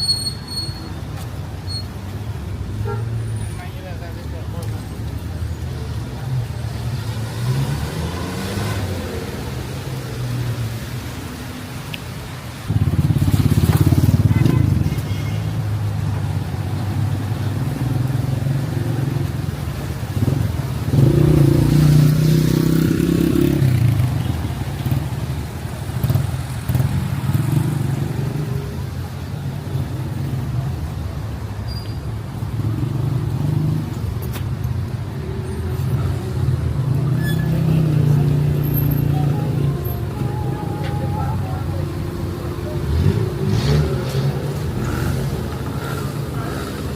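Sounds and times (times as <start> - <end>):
vehicles passing by: 0.0 - 46.9.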